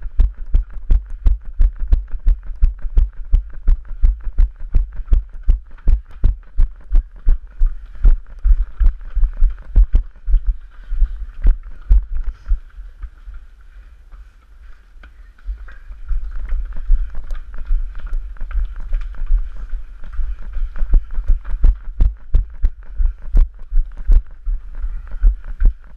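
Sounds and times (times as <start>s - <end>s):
running footsteps on stone: 0.0s - 13.6s, 14.7s - 25.9s.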